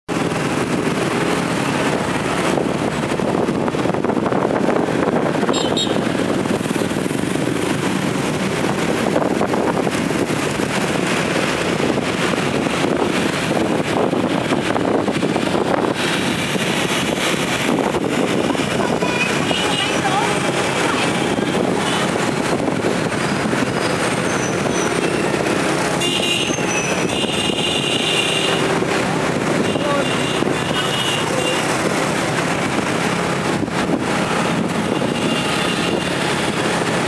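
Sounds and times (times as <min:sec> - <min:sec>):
street traffic engine noise: 0:00.0 - 0:37.0
wind on microphone: 0:00.1 - 0:37.0.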